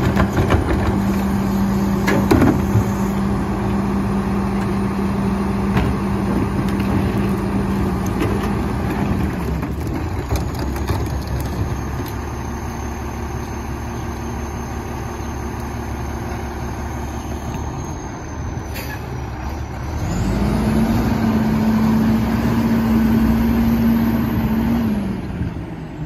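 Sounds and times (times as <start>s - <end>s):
diesel engine idling and revving: 0.0s - 26.0s.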